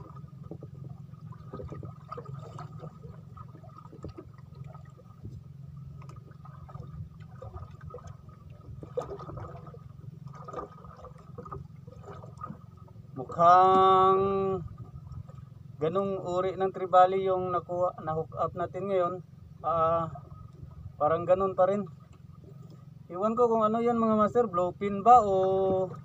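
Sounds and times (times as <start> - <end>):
water lapping against boat: 0.0 - 26.0.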